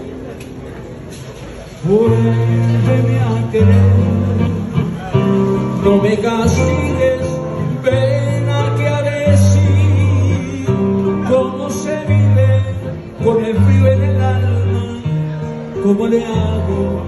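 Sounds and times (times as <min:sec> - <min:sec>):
nylon-string acoustic guitar: 0:00.1 - 0:17.0
man singing: 0:01.8 - 0:17.0
bass line: 0:01.9 - 0:17.0.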